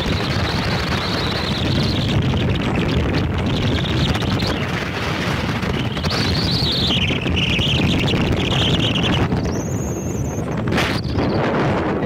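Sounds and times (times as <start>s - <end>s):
speedboat engine and hull rushing: 0.0s - 12.0s
wind buffeting microphone: 0.0s - 12.0s.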